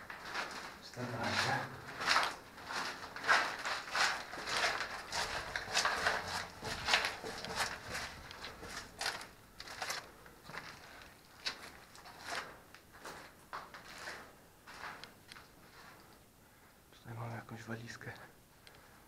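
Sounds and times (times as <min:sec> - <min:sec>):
footsteps crunching on grit: 0:00.0 - 0:16.1.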